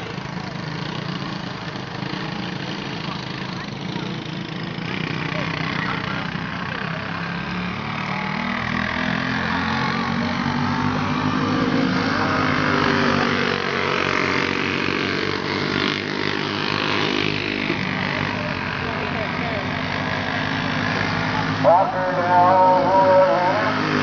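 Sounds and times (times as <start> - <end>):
go-kart engines racing: 0.0 - 24.0.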